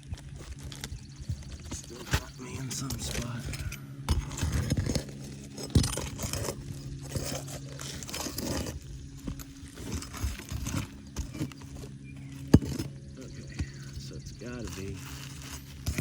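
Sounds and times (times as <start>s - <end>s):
roofing tools scraping shingles: 0.0s - 16.0s
steady low hum: 0.0s - 16.0s.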